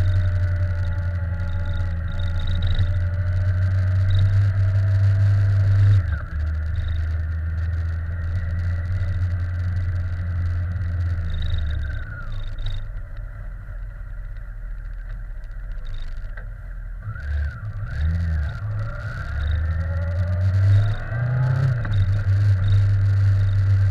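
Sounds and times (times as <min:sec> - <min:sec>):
engine running: 0:00.0 - 0:23.9.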